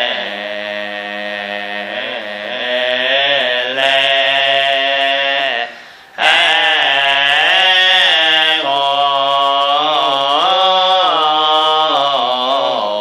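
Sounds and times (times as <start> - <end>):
low male voice chanting: 0.0 - 13.0.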